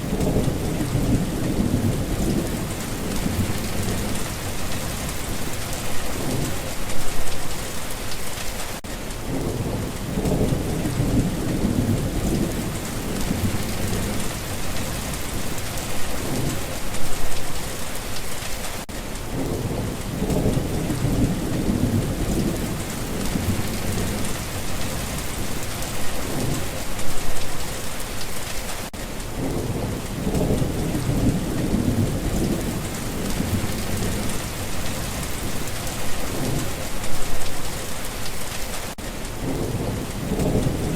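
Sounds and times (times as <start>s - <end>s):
low rolling thunder: 0.0s - 7.4s, 9.2s - 17.6s, 19.2s - 27.7s, 29.3s - 37.6s, 39.4s - 40.9s
steady rain: 0.0s - 40.9s.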